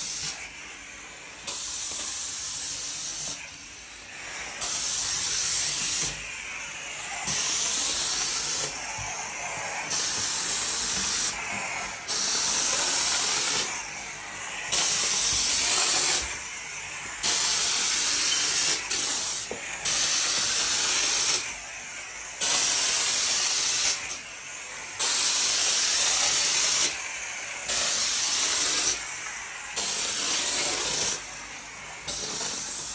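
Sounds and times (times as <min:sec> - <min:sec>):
steam mop hissing bursts: 0:00.0 - 0:32.9.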